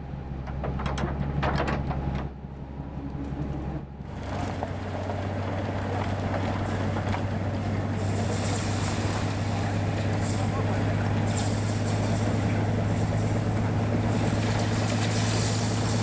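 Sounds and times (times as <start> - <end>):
low hum: 0.0 - 16.0
snowplow engine drone: 0.0 - 16.0.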